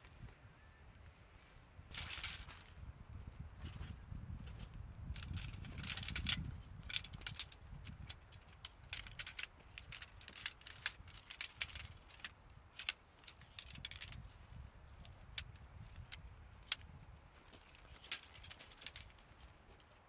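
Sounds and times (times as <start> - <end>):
tent pole sections clicking: 1.9 - 2.7, 4.5 - 20.0.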